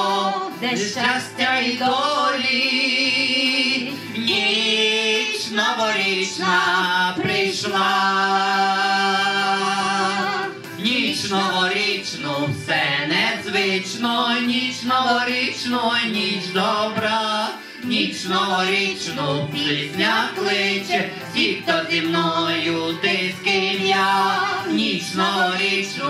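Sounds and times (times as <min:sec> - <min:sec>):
male vocal trio singing: 0:00.0 - 0:26.0.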